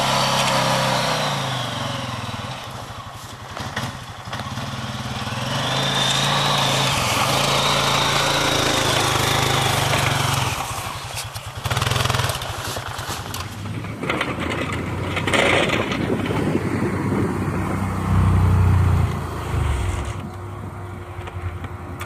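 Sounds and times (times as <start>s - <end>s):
high engine whine: 0.0s - 12.2s, 13.4s - 22.0s
atv engine running: 0.0s - 22.0s.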